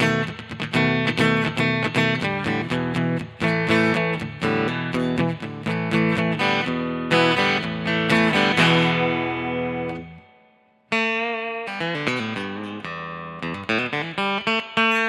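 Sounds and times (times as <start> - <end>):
acoustic guitar through amp: 0.0 - 15.0.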